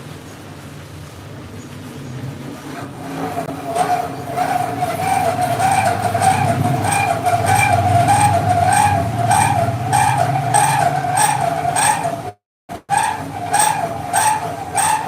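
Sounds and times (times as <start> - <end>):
milling machinery running: 2.6 - 15.0.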